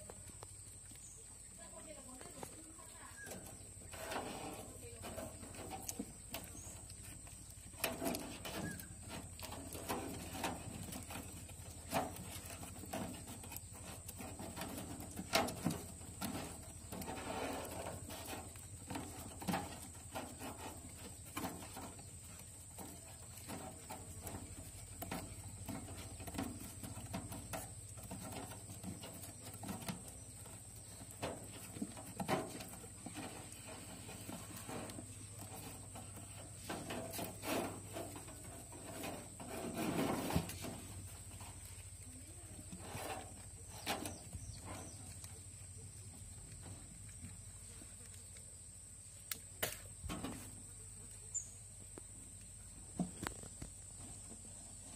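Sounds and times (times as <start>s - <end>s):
rats scuffling and chewing: 0.0s - 54.9s.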